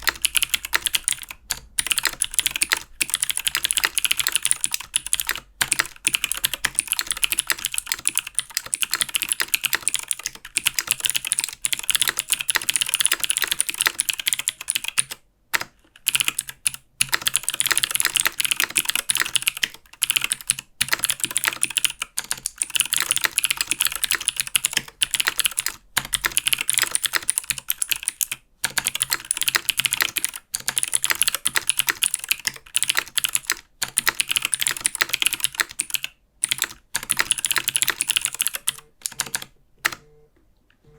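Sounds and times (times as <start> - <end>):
fast typing on mechanical keyboard: 0.0 - 40.0.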